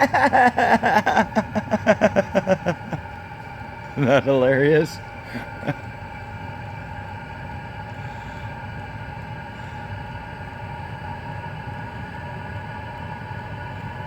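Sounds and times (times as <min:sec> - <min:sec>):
heater blower fan whine: 0:00.0 - 0:14.0.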